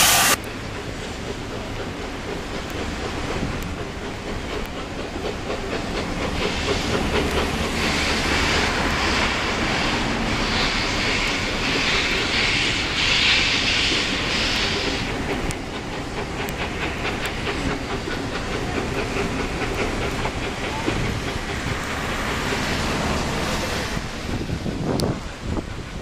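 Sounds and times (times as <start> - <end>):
coaches running on rails: 0.0 - 26.0
steam locomotive exhaust hiss: 0.0 - 26.0.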